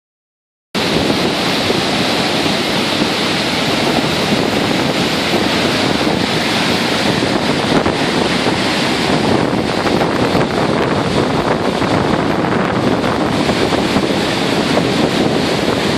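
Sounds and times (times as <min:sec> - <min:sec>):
waterfall rushing: 0:00.8 - 0:15.9.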